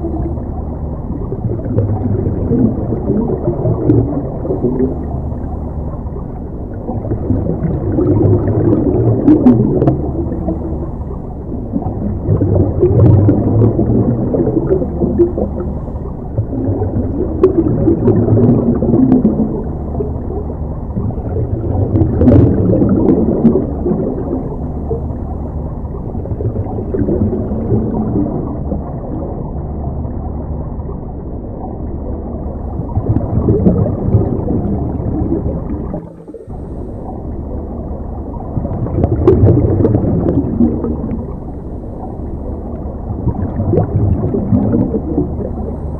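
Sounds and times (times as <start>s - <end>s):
regulator bubbles gurgling underwater: 0.0s - 45.9s.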